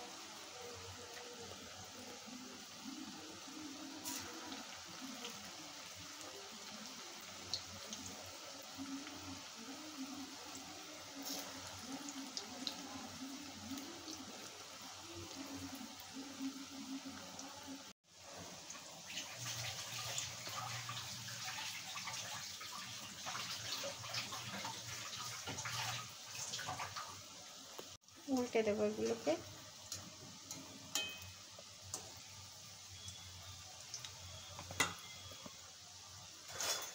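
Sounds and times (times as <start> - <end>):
food deep-frying in hot oil: 0.0 - 36.9.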